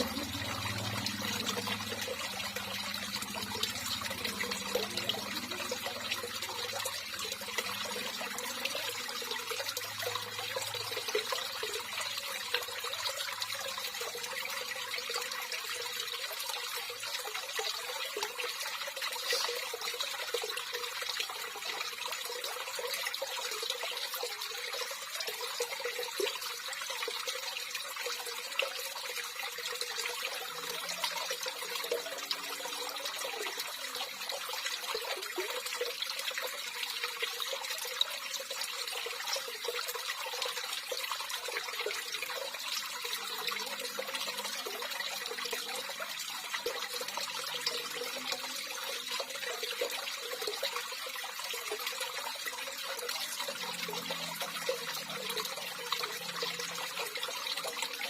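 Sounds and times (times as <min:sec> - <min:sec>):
water running and trickling: 0:00.0 - 0:58.0.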